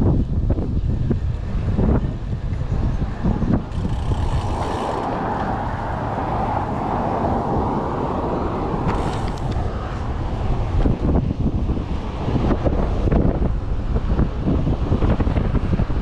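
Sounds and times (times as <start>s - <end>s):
wind rumble on microphone: 0.0s - 16.0s
passing vehicle road noise: 0.9s - 16.0s.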